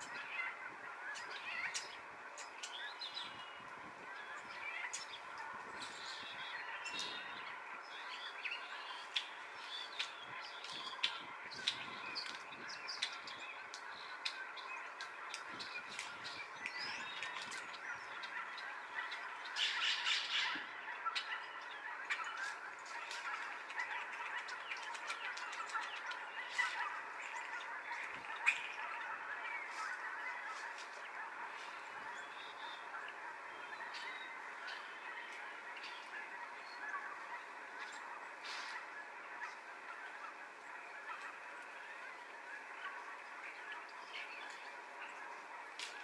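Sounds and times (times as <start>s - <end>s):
farmyard fowl calling: 0.0s - 46.0s
small birds chirping: 0.0s - 46.0s.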